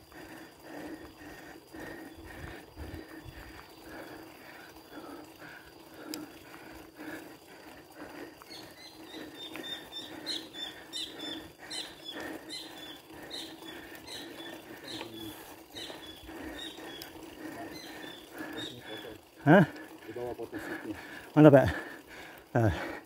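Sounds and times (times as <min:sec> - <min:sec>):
bicycle tyre and drivetrain noise: 0:00.0 - 0:23.0
rhythmic ticking: 0:00.0 - 0:23.0.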